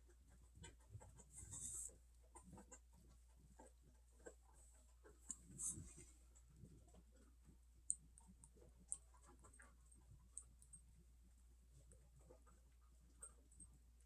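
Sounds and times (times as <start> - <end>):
faint clicks and taps of containers: 0.0 - 14.0.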